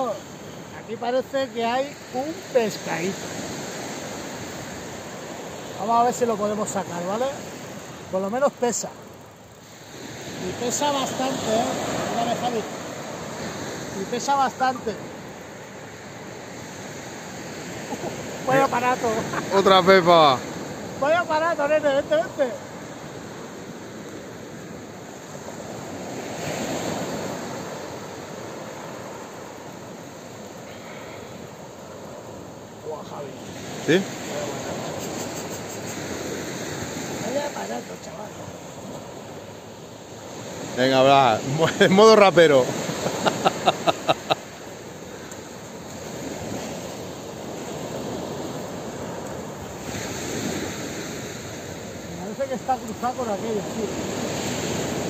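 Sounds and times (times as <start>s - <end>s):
small waves breaking on beach: 0.0s - 55.0s.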